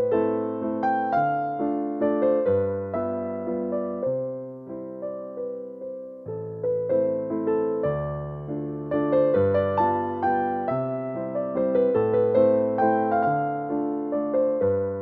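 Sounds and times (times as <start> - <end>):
gentle electric piano melody: 0.0 - 15.0.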